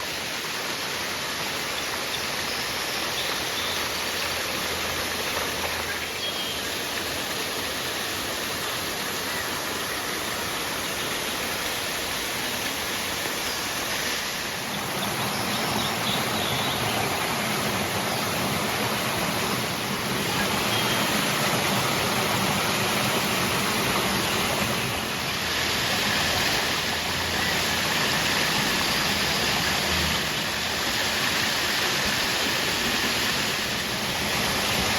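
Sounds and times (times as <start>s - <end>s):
river water rushing and splashing: 0.0s - 34.9s.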